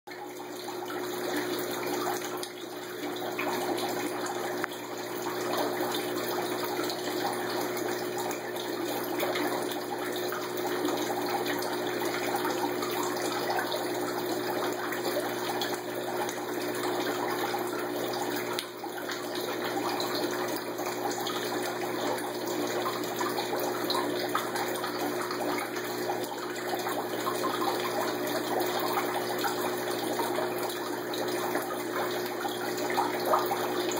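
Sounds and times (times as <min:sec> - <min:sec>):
aquarium filter bubbling water: 0:00.1 - 0:33.9.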